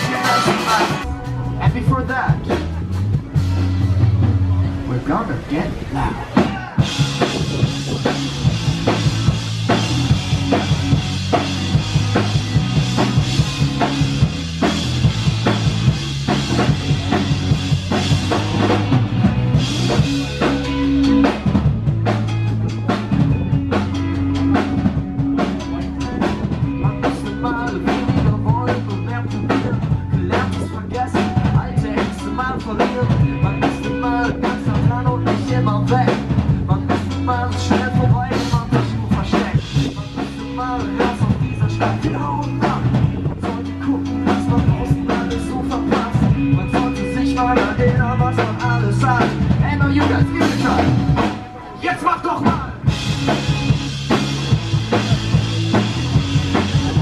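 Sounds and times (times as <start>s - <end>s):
bass lines: 0.0s - 57.0s
drum kit beating: 0.0s - 57.0s
live band playing: 0.0s - 57.0s.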